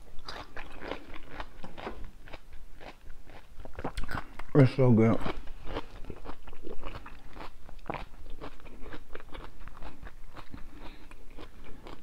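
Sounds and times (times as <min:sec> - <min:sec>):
chewing and lip-smacking: 0:00.0 - 0:04.6, 0:05.2 - 0:12.0.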